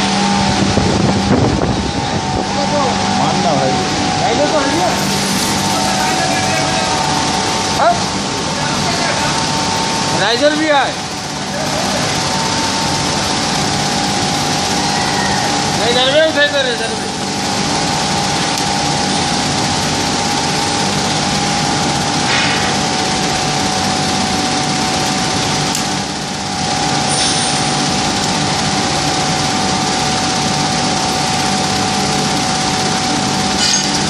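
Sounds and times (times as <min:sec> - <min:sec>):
loud machine din with whine: 0:00.0 - 0:34.0.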